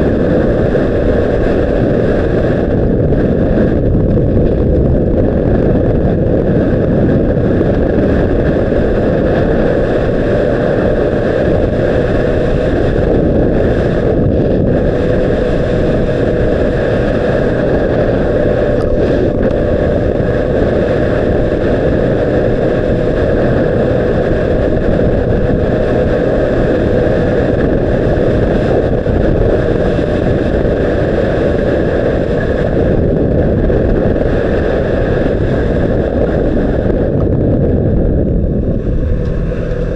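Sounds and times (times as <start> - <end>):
motorcycle engine steady note: 0.0 - 39.9
wind rush on microphone: 0.0 - 39.9.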